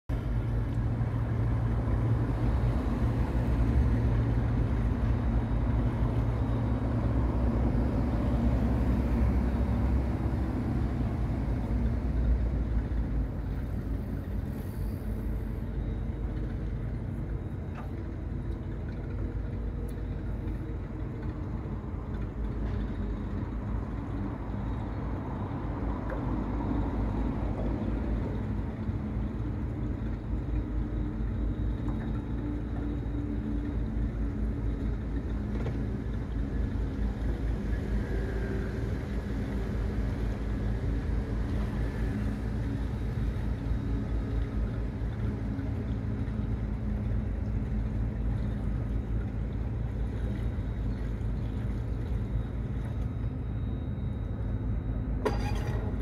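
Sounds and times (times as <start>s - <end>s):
boat engine droning: 0.1s - 56.0s.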